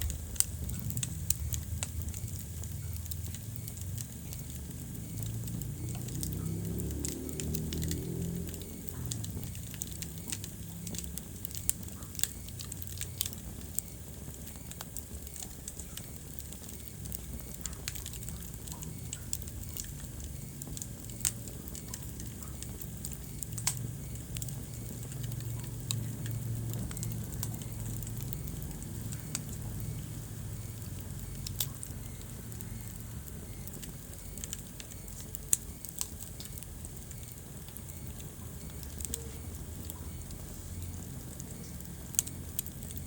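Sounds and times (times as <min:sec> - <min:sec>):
low rumble and hiss: 0:00.0 - 0:43.0
wood fire crackling: 0:00.0 - 0:43.0.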